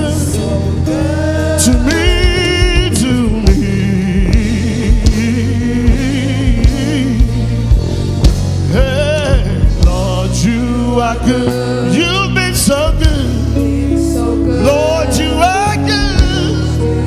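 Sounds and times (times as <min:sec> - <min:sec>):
band playing gospel music: 0:00.0 - 0:17.0
singers holding long notes: 0:00.0 - 0:17.0.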